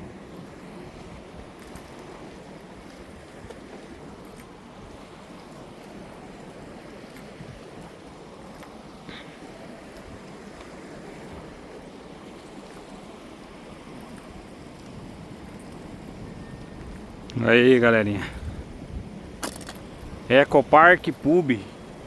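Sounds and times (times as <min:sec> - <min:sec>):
flowing river water: 0:00.0 - 0:22.0.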